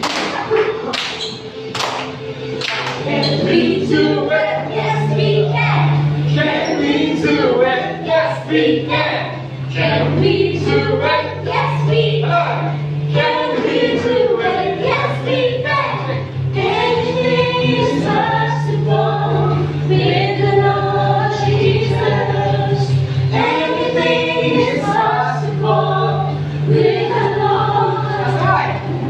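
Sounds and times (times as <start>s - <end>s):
group singing worship song: 2.0s - 29.0s
bass line: 2.5s - 29.0s.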